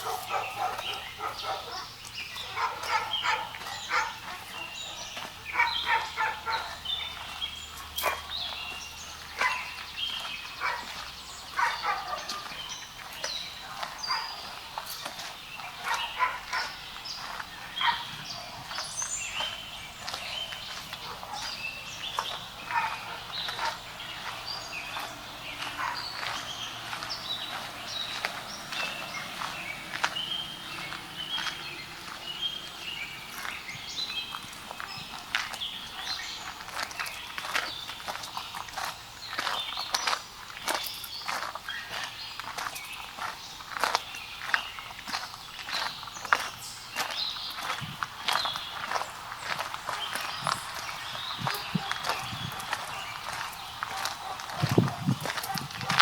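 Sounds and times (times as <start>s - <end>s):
birds chirping: 0.0s - 56.0s
distant dogs barking: 0.0s - 56.0s.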